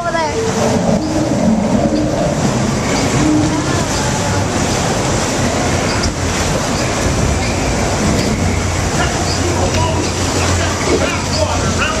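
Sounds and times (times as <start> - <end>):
ride rumbling and rattling: 0.0 - 12.0.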